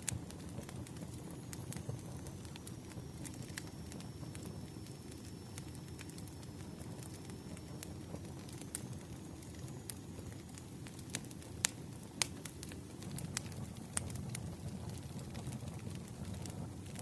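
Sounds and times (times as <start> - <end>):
campfire crackling and popping: 0.0 - 17.0
low rumble of flame: 0.0 - 17.0.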